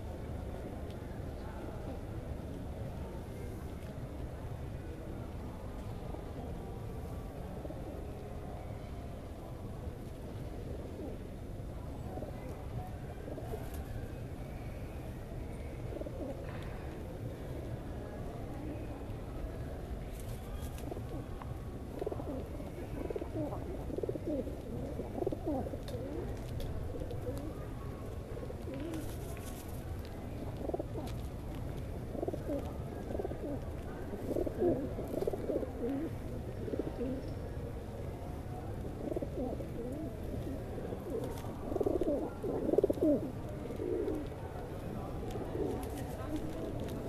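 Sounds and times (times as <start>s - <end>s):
steady low background noise: 0.0s - 47.0s.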